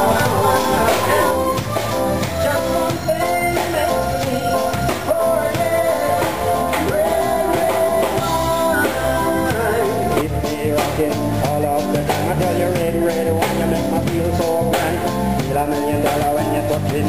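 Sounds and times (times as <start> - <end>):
person singing: 0.0 - 17.0
rock and roll band music: 0.0 - 17.0.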